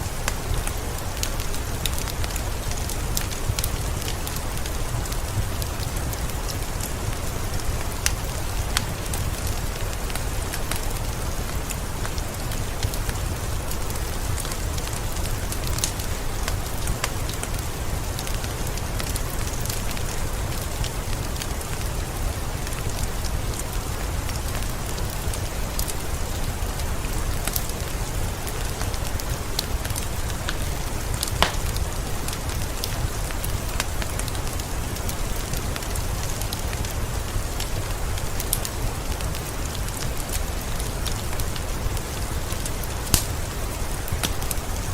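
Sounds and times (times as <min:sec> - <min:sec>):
steady rain: 0:00.0 - 0:44.9
wood fire crackling: 0:00.0 - 0:44.9.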